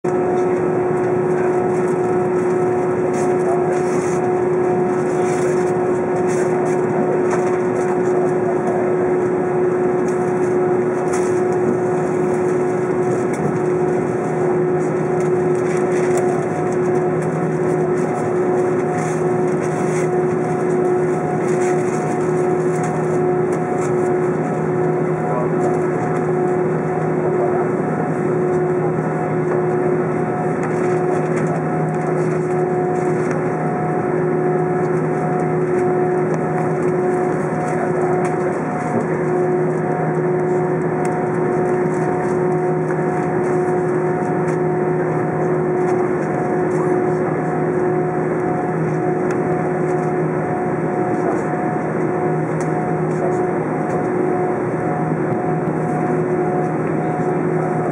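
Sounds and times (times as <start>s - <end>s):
low engine tone: 0.0s - 57.9s
jet engines idling: 0.1s - 57.9s.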